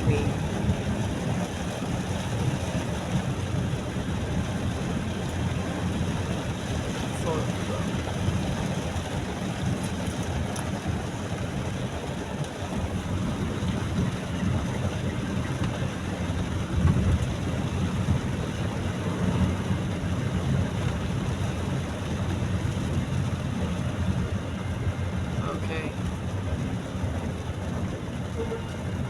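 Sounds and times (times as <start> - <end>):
car driving heard inside cabin: 0.0 - 29.0.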